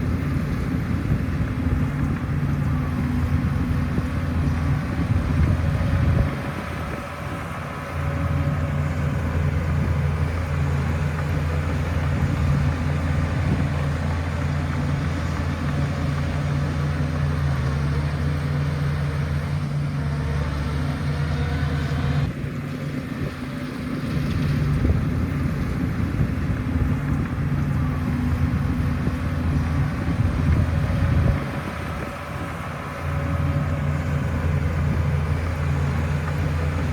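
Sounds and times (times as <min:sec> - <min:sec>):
bulldozer diesel engine under load: 0:00.0 - 0:36.9.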